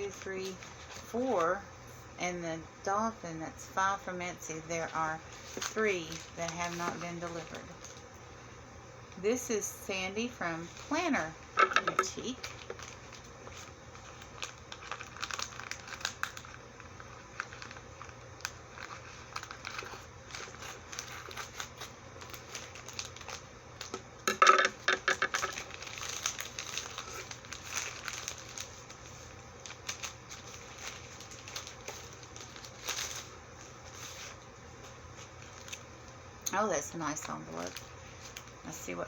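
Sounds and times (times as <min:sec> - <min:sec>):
paper packaging crinkling: 0:00.0 - 0:01.4, 0:04.5 - 0:08.1, 0:10.2 - 0:39.0.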